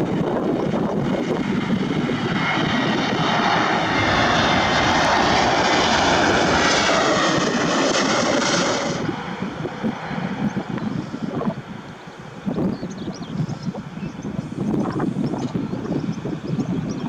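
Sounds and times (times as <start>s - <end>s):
jet airliner engines whining: 0.0s - 17.0s
wind buffeting microphone: 0.0s - 17.0s.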